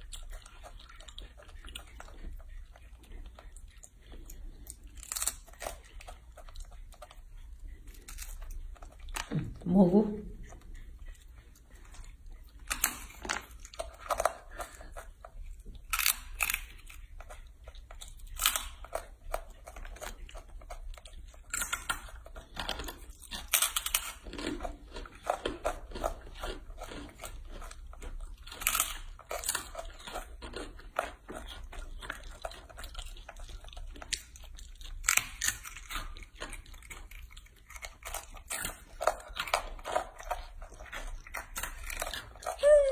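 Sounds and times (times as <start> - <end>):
monkey crunching crisp chips: 0.0 - 42.9.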